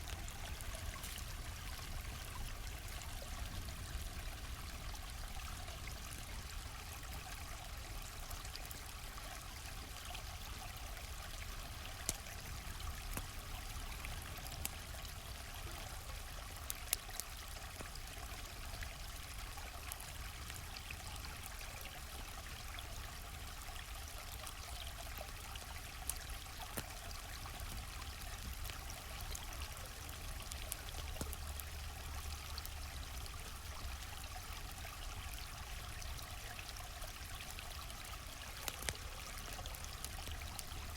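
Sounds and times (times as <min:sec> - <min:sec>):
campfire popping: 0:00.0 - 0:07.5, 0:09.7 - 0:23.0, 0:25.5 - 0:40.9
stream flowing: 0:00.0 - 0:40.9.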